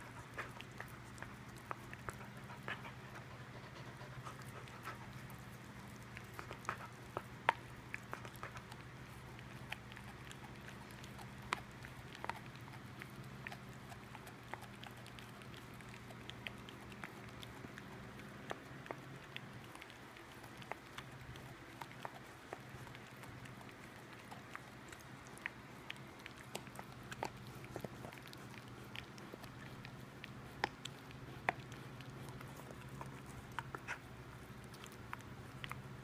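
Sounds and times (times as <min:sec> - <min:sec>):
dog gnawing on a bone: 0:00.0 - 0:36.0.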